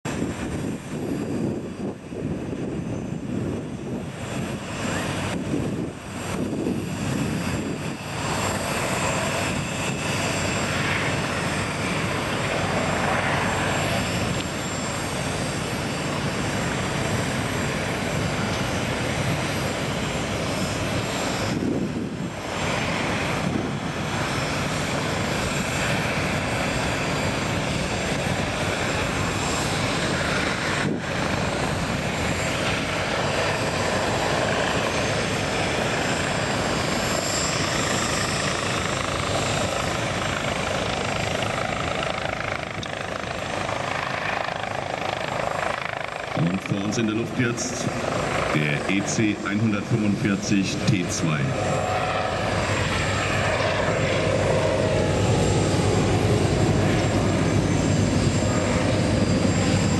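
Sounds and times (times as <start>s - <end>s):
helicopter rotor and turbine noise: 0.0s - 59.9s
thin high turbine whine: 0.1s - 59.9s.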